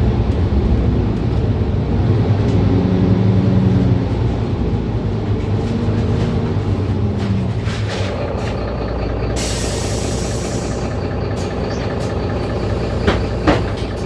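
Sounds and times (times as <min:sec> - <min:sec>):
bus engine running low: 0:00.0 - 0:14.0.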